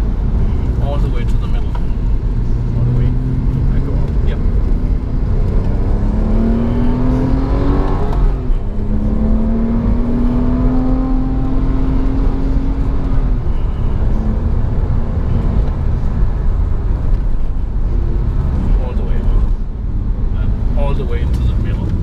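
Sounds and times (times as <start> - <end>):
car engine accelerating through gears: 2.0 - 22.0.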